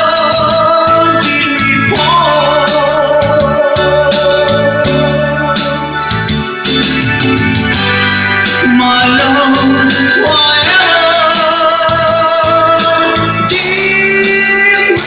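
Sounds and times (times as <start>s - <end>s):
karaoke ballad backing track: 0.0s - 15.0s.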